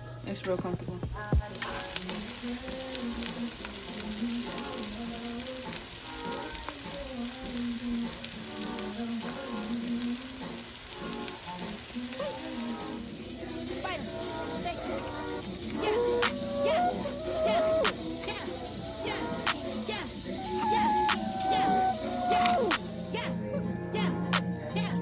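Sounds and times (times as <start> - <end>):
background music: 0.0 - 25.0
steak sizzling in a pan: 1.4 - 23.3.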